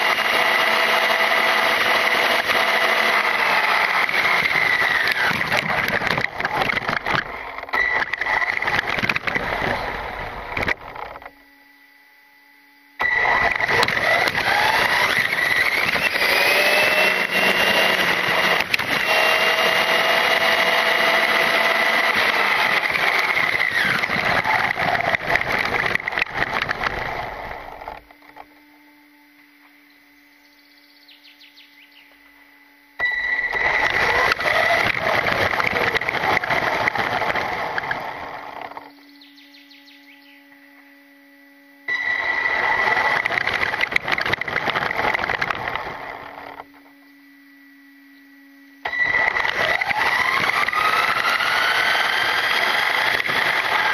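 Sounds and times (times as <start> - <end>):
rc car driving on asphalt: 0.0 - 11.4, 13.0 - 28.7, 33.0 - 40.2, 41.8 - 47.0, 48.8 - 53.9
electric motor whine: 0.0 - 53.9
faint steady hum: 1.3 - 51.6.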